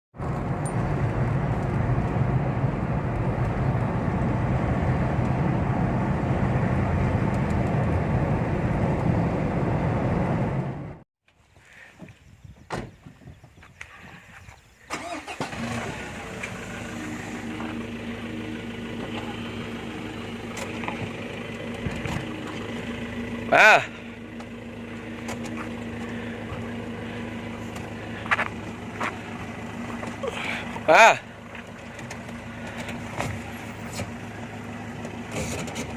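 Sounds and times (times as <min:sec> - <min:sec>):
engine running: 0:00.2 - 0:11.0, 0:14.9 - 0:35.9.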